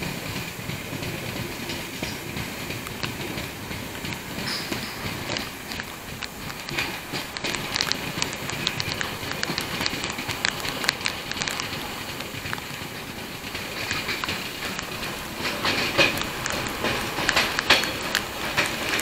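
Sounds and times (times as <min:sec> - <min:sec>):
train wheels rolling on rail: 0:00.0 - 0:19.0
sharp wheel clicks: 0:01.7 - 0:19.0.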